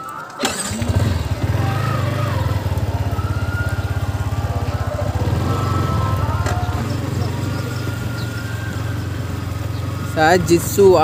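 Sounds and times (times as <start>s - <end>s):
motorcycle engine starting: 0.2s - 11.0s
motorcycle engine idling: 0.4s - 11.0s.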